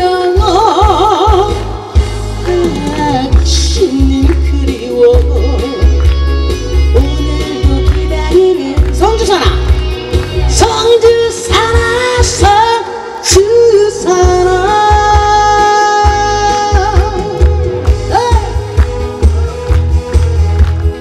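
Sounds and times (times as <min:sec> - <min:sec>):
woman singing into microphone: 0:00.0 - 0:18.6
instrumental accompaniment with beat: 0:00.0 - 0:21.0.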